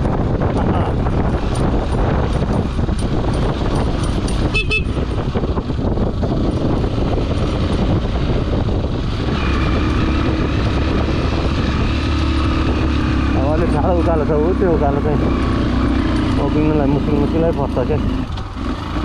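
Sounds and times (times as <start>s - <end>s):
motorcycle engine: 0.0s - 19.0s
motorcycle rattling over ruts: 0.0s - 19.0s
wind: 0.0s - 19.0s.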